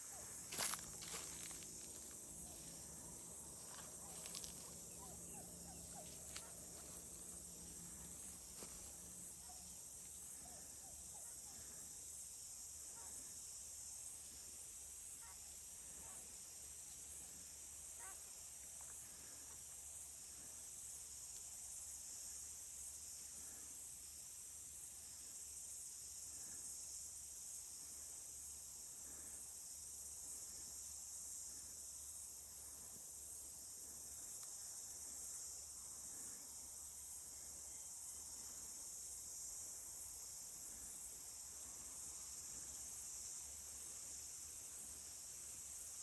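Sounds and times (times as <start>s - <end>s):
high-pitched hiss: 0.0s - 46.0s.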